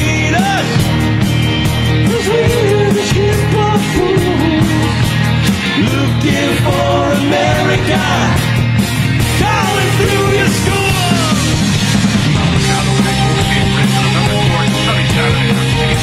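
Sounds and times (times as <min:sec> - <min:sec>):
live rock band playing: 0:00.0 - 0:16.0
melodic lead guitar line: 0:00.0 - 0:16.0.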